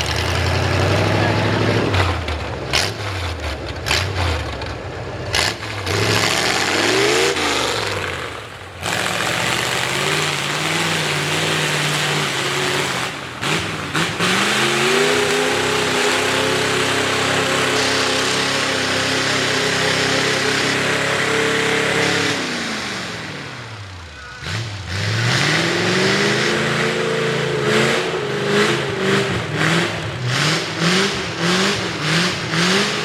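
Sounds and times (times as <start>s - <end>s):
truck engine revving: 0.0s - 33.0s.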